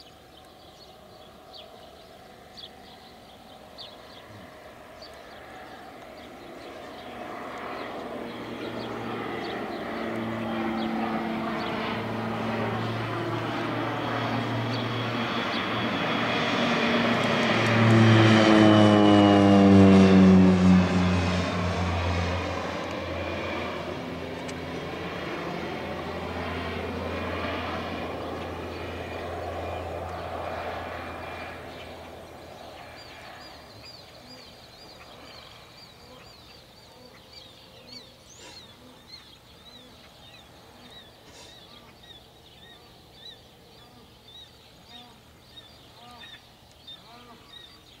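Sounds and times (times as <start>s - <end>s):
birds chirping: 0.0s - 48.0s
propeller airplane passing overhead: 0.0s - 48.0s.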